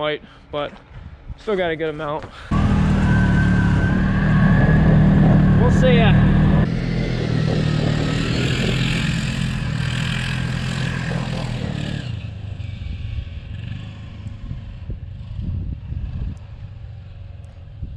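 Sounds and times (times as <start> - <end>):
utility vehicle engine driving away: 2.5 - 17.9.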